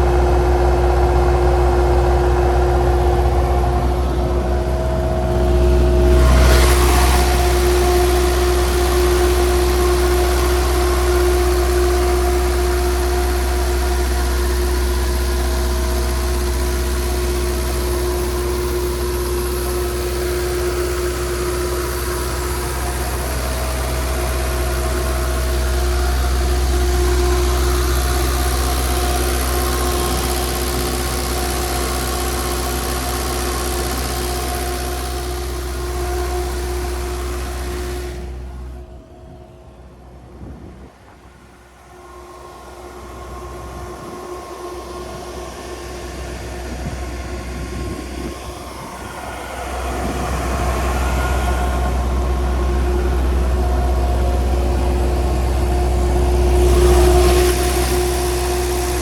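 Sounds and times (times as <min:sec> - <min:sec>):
compressor whine: 0:00.0 - 0:59.0
diesel engine deep hum: 0:00.0 - 0:59.0.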